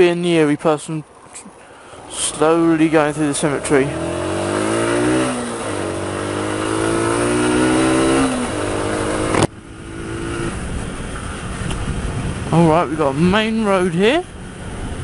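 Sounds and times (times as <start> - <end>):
motorcycle engine accelerating: 2.4 - 15.0.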